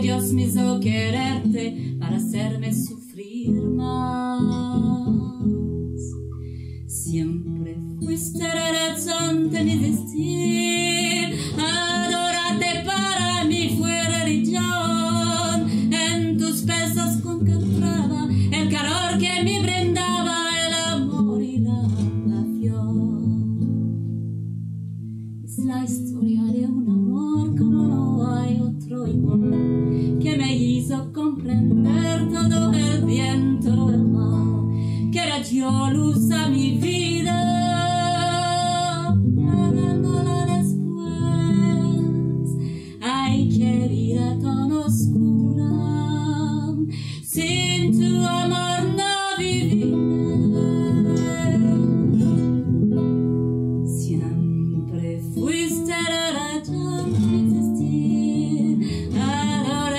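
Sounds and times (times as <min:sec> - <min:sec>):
woman singing: 0:00.0 - 0:06.3, 0:06.9 - 0:23.9, 0:25.4 - 0:52.7, 0:53.8 - 0:59.9
acoustic guitar: 0:00.0 - 0:59.9.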